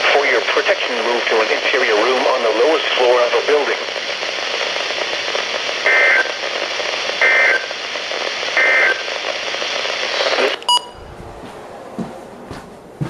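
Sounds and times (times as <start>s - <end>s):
radio static hiss: 0.0s - 10.8s.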